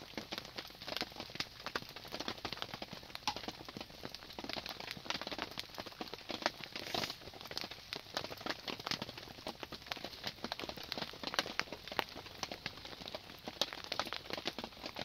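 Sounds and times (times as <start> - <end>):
rain pattering and dripping: 0.0 - 15.0.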